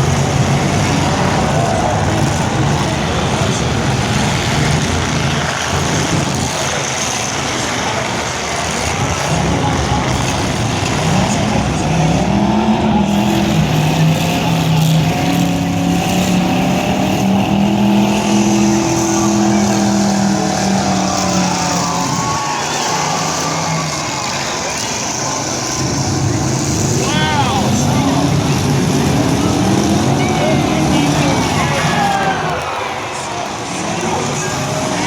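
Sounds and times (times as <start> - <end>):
truck engines revving: 0.0 - 35.0.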